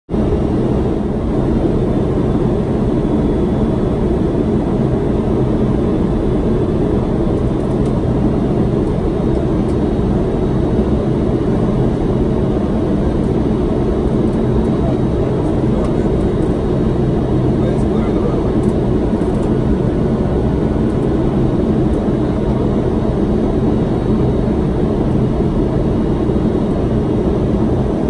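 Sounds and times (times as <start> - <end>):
airflow and engine noise in cockpit: 0.1 - 28.0.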